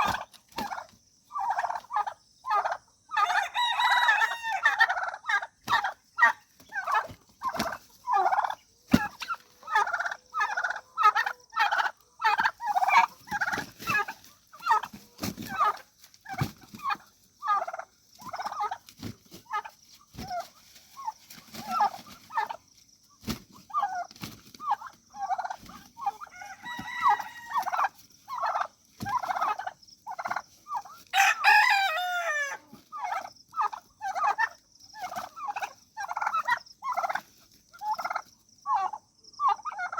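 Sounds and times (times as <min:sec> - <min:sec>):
roosters calling: 0:00.0 - 0:39.9
turkey gobbling: 0:00.0 - 0:39.9.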